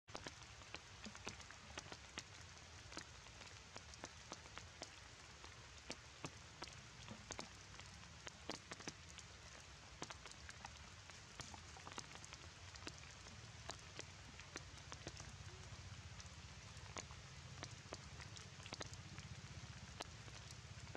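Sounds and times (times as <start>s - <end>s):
rain hiss: 0.1s - 20.9s
raindrops ticking on leaves: 0.1s - 20.9s.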